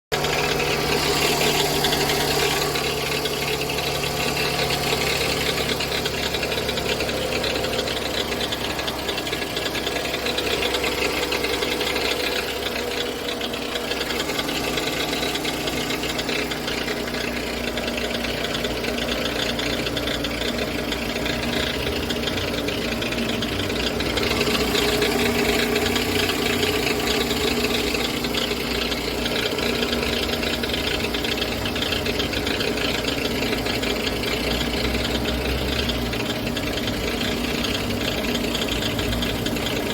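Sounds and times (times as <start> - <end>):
engine knocking rattle: 0.1 - 39.9.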